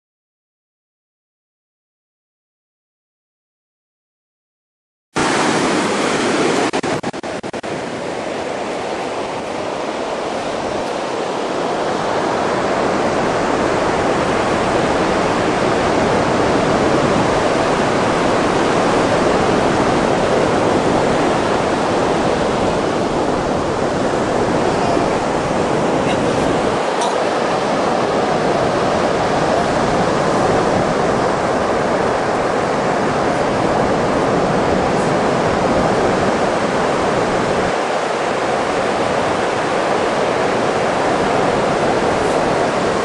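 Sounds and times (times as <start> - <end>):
ocean surf breaking: 5.2 - 43.0.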